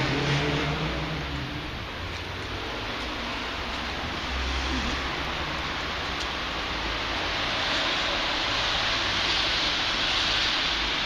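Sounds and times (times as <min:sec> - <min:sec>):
rushing street noise: 0:00.0 - 0:11.0.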